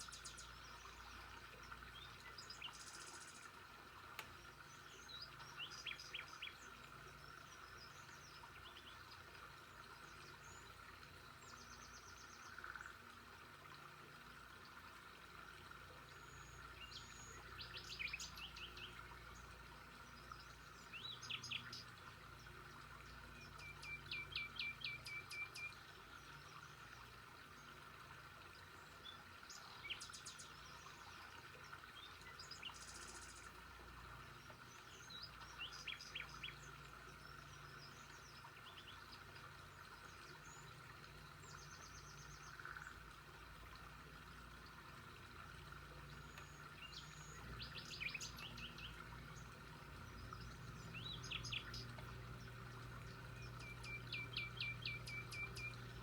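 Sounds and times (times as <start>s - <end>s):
faint background hum: 0.0s - 56.0s
songbirds chirping and trilling: 0.0s - 56.0s.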